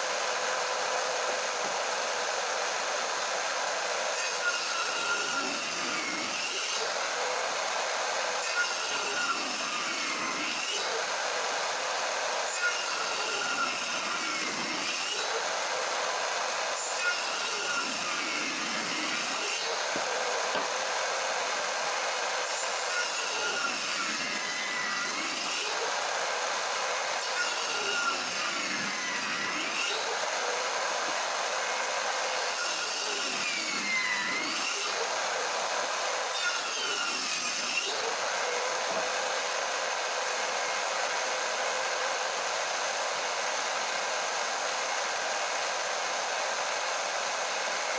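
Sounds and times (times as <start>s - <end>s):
table saw cutting wood: 0.0s - 47.9s.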